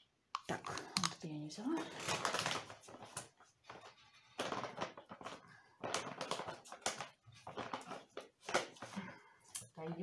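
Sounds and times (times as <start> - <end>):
objects rustling and clattering: 0.4 - 10.0.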